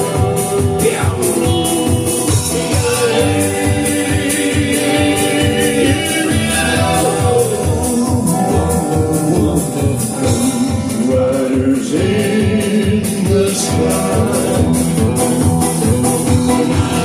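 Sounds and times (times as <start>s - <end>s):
country-western band playing: 0.0s - 17.0s.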